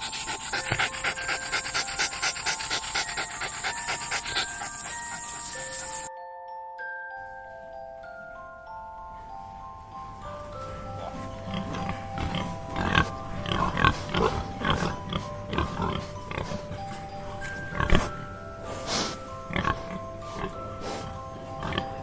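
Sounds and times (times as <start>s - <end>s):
soft chime-like music: 0.0s - 22.0s.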